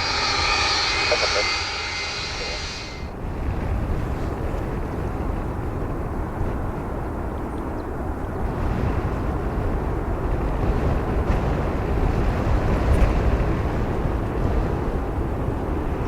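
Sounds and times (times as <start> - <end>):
airliner engine rumble: 0.0 - 16.0.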